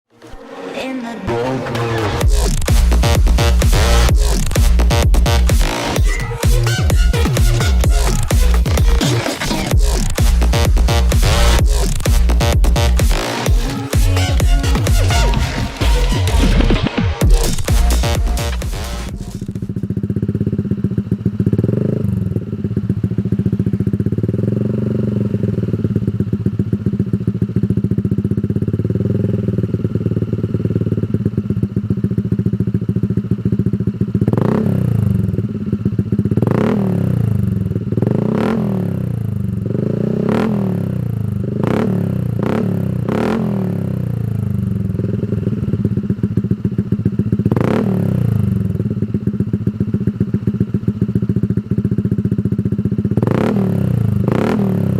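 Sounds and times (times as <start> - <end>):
scooter engine idling and revving: 1.2 - 54.9.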